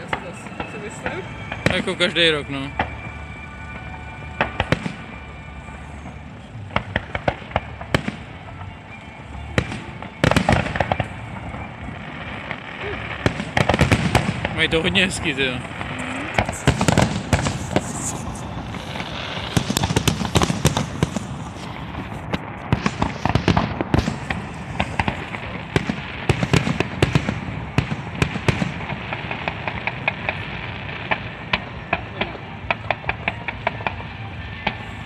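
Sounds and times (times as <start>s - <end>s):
fireworks bursting with sharp bangs: 0.0s - 35.0s
fireworks crackling: 0.0s - 35.0s.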